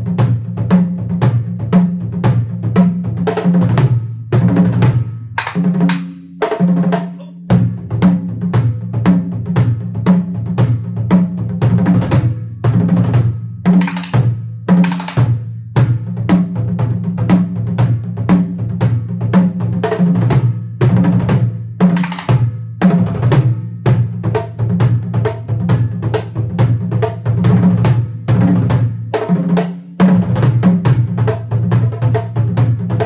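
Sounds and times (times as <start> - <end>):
taiko drums: 0.0 - 33.0.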